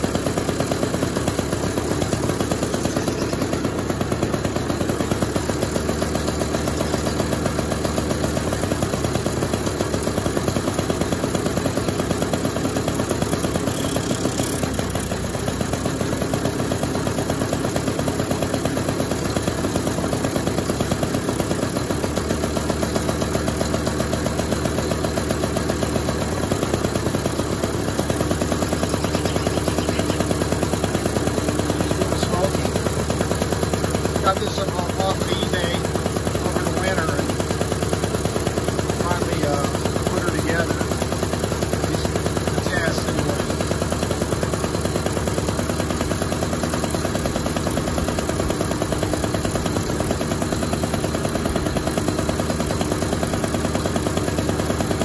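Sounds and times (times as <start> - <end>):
two-stroke scooter engine running: 0.0 - 55.0.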